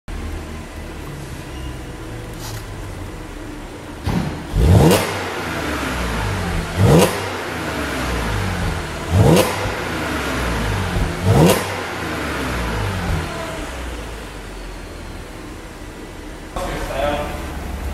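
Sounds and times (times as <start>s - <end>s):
car engine idling and revving: 0.1s - 17.9s.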